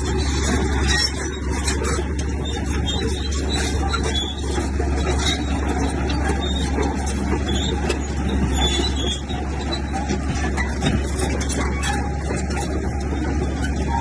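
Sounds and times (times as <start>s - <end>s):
bulldozer diesel engine drone: 0.0s - 14.0s.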